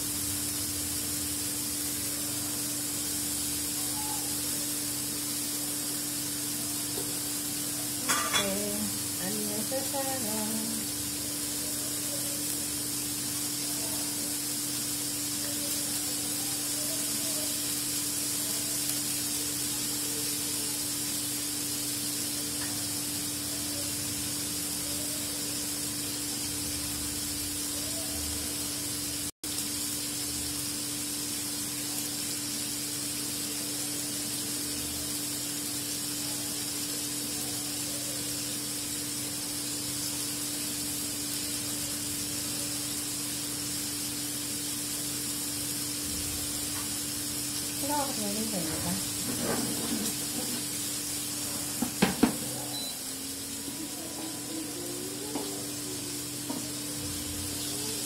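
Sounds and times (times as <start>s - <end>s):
prawns sizzling in oil: 0.0s - 58.0s.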